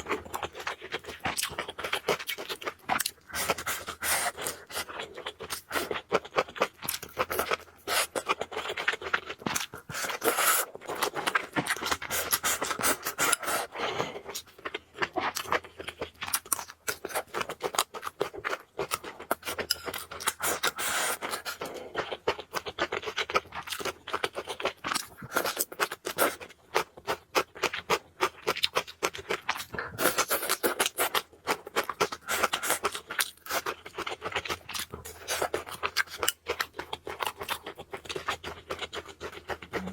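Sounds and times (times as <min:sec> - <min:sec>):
person chewing and slurping noodles: 0:00.0 - 0:39.9.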